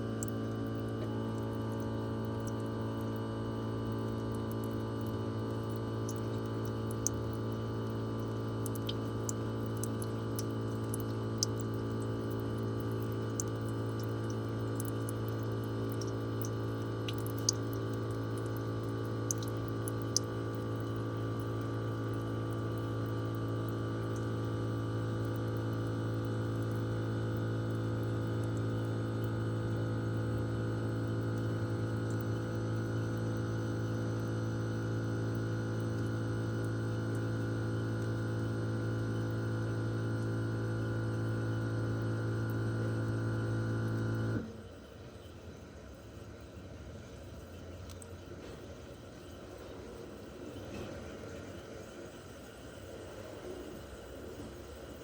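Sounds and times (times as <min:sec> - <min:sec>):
air conditioner compressor hum: 0:00.0 - 0:55.0.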